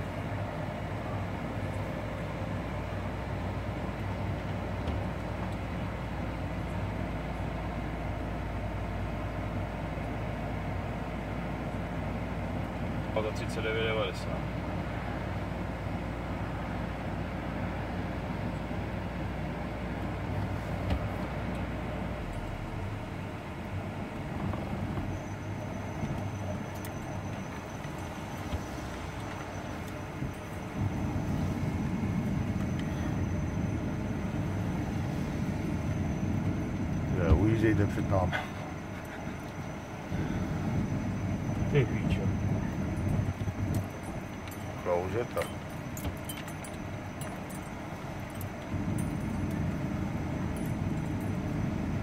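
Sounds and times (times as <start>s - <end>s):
engine hum: 0.0s - 52.0s
tyre noise on snowy road: 0.0s - 52.0s.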